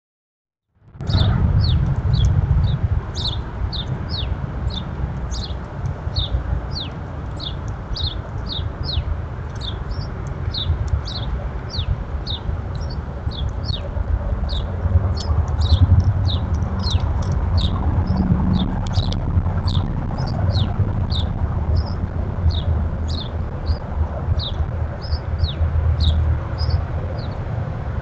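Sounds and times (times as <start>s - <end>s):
steady low rumble: 0.8s - 28.0s
songbird high downward chirps: 1.1s - 27.4s.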